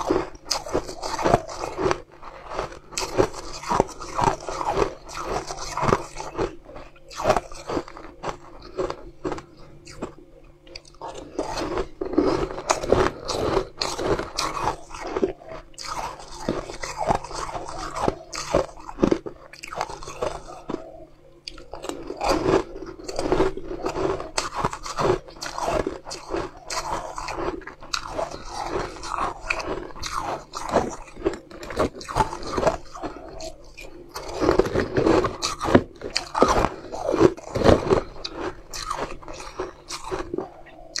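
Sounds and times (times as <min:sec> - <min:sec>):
crunchy chewing: 0:00.0 - 0:41.0.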